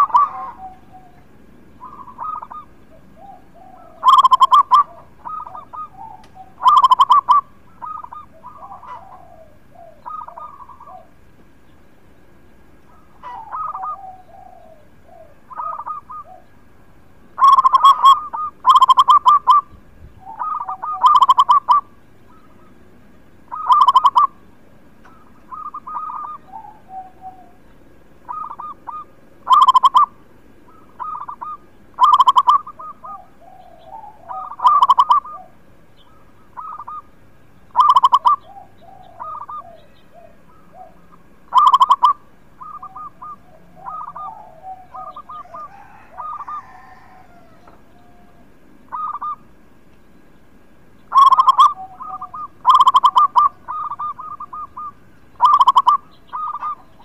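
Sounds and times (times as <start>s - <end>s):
dove cooing: 0.0s - 11.3s, 12.9s - 49.6s, 51.0s - 57.0s.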